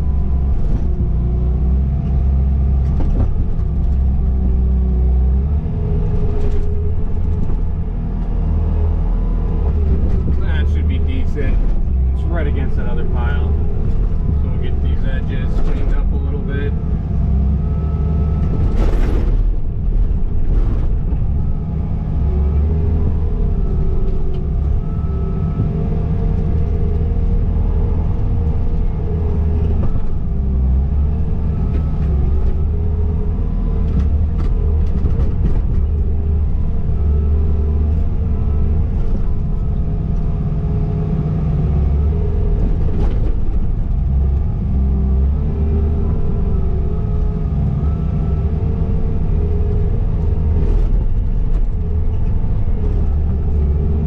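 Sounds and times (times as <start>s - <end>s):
skid steer engine under load: 0.0s - 54.0s.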